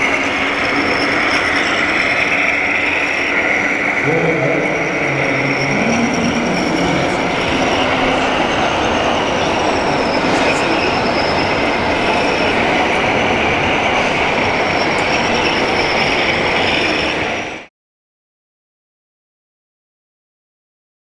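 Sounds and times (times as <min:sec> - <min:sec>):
constant noisy din: 0:00.0 - 0:17.6.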